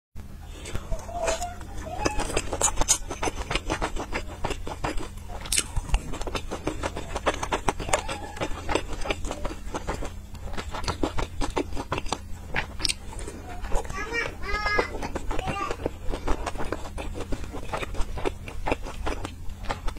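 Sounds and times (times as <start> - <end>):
person chewing with wet smacking: 0.4 - 19.9.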